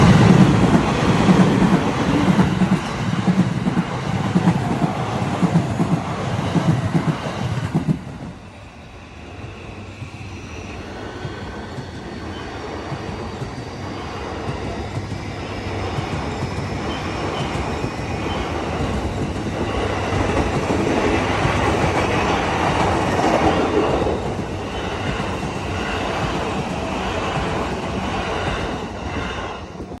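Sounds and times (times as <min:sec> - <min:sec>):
train wheels clattering: 0:00.0 - 0:08.3, 0:09.4 - 0:30.0.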